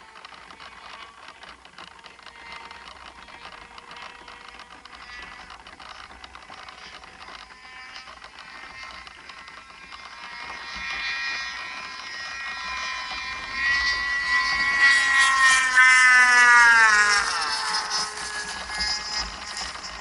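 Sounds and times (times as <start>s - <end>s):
distant model airplane engine buzzing: 0.0s - 20.0s.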